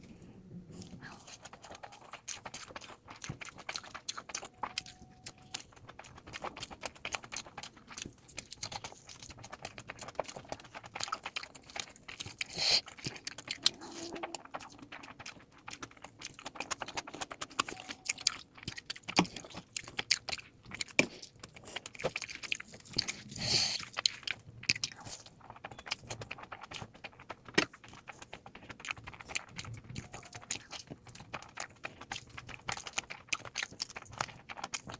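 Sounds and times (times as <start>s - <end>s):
person chewing wet food: 0.0s - 34.9s.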